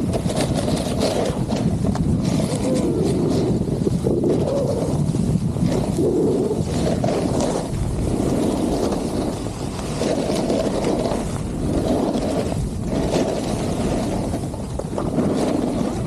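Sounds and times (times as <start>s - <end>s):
skis scraping on snow: 0.0s - 16.0s
wind rushing over microphone: 0.0s - 16.0s.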